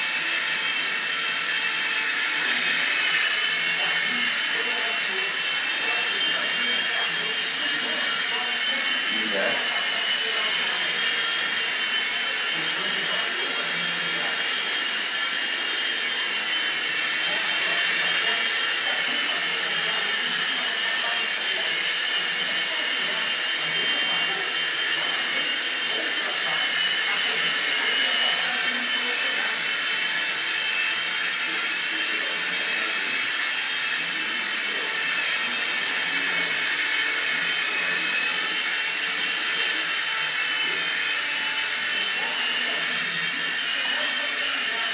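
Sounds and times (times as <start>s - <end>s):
mini helicopter rotor whine: 0.0s - 44.9s.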